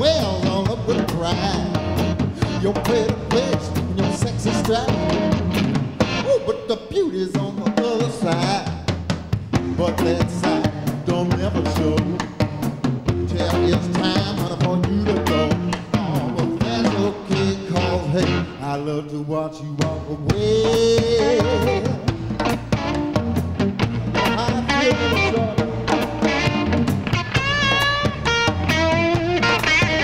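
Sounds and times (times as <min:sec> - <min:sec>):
man singing: 0:00.0 - 0:05.4, 0:06.1 - 0:08.9, 0:09.6 - 0:22.6, 0:24.0 - 0:26.9
blues band playing: 0:00.0 - 0:30.0.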